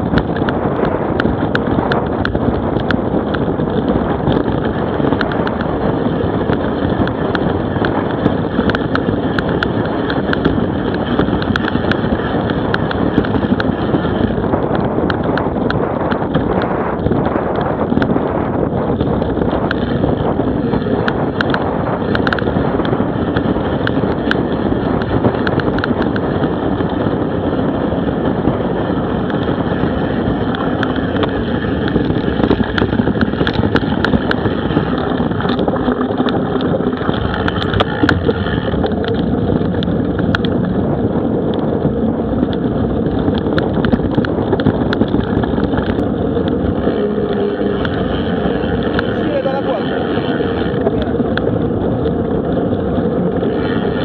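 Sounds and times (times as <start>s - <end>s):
bike clicks and knocks: 0.0s - 54.0s
bike tyres rolling on dirt: 0.0s - 54.0s
wind rush on microphone: 0.0s - 54.0s.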